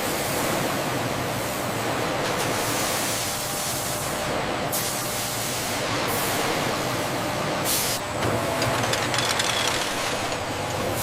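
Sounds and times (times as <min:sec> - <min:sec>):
steady machinery hiss: 0:00.0 - 0:11.0.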